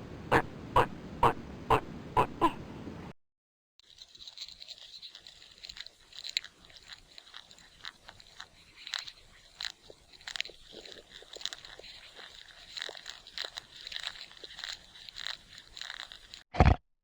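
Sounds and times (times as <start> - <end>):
animal crunching food: 0.1 - 2.6, 3.8 - 16.4.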